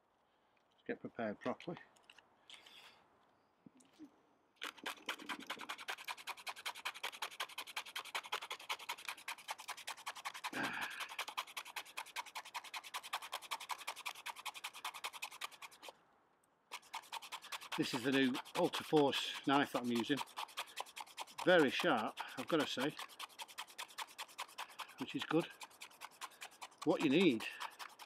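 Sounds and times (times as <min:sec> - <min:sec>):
knife scraping bark: 0:04.6 - 0:16.0, 0:16.7 - 0:28.0.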